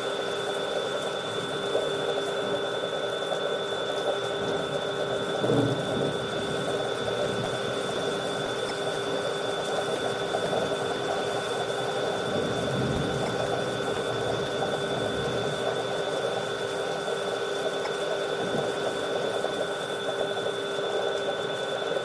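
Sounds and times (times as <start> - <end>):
machine humming with crackling rattle: 0.0 - 22.0.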